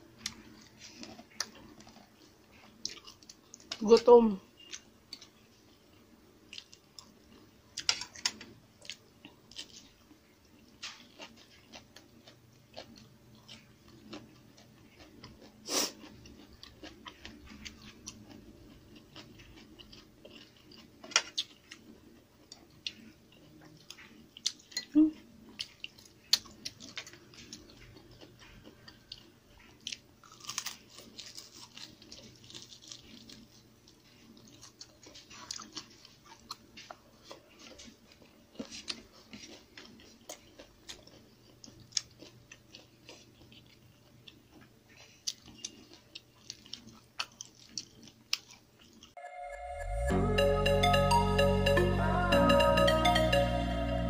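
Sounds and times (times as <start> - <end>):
person chewing and crunching food: 0.0 - 3.9, 4.6 - 49.2.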